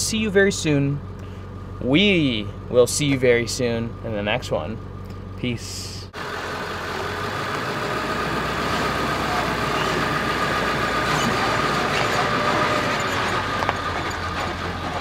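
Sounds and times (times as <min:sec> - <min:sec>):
diesel pickup truck engine drone: 0:00.0 - 0:15.0.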